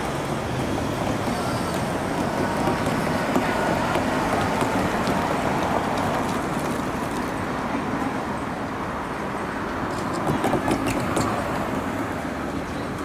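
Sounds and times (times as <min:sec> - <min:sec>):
passing cars and tyres: 0:00.0 - 0:13.0.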